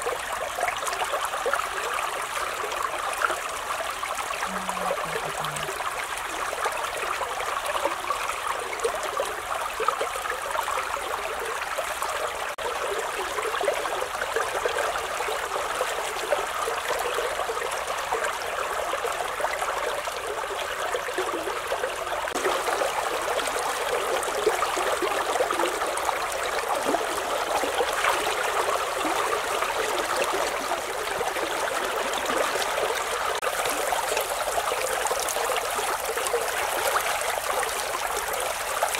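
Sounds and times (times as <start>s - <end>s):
river running: 0.0s - 38.9s.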